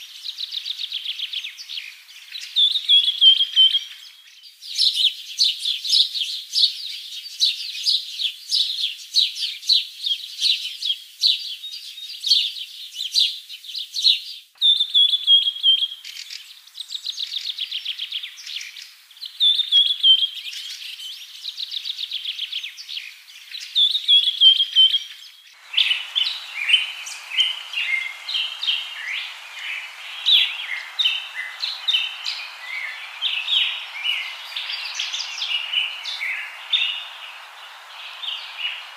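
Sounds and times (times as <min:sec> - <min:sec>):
steady hiss: 0:00.0 - 0:07.3, 0:14.6 - 0:38.9
small birds chirping: 0:00.0 - 0:38.9.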